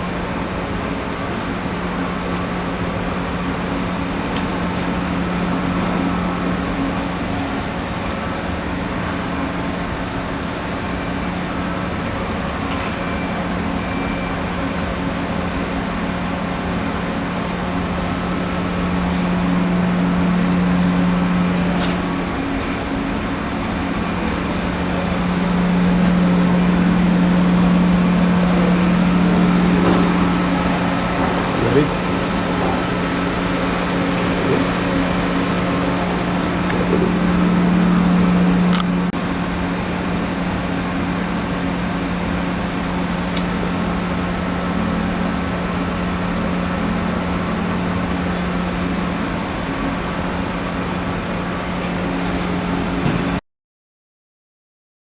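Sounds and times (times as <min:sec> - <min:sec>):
industrial machinery humming: 0:00.0 - 0:53.4.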